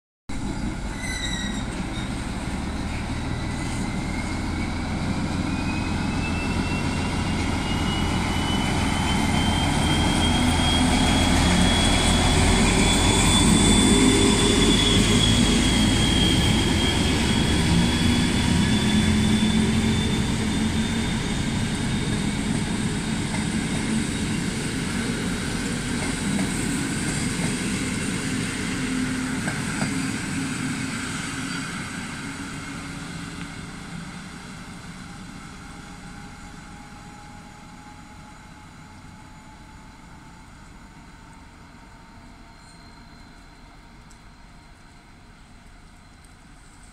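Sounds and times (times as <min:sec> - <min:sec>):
train wheels on rails: 0:00.3 - 0:46.9
locomotive engine whining: 0:00.4 - 0:46.9.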